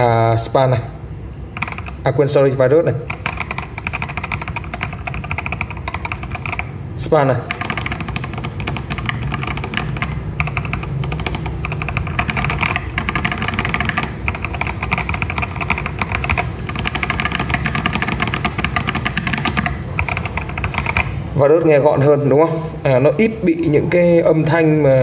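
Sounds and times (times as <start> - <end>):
mechanical keyboard typing: 1.5 - 22.1.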